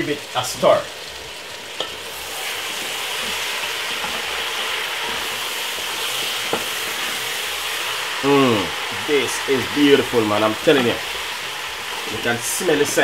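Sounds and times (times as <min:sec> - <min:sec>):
chicken sizzling in a pot: 0:00.0 - 0:13.0
wooden spoon stirring: 0:02.3 - 0:13.0.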